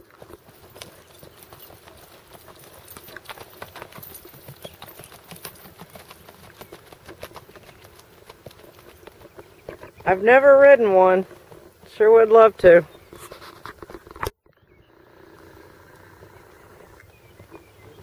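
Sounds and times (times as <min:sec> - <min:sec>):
horse hoofbeats on dirt: 0:00.0 - 0:14.2, 0:14.8 - 0:18.0.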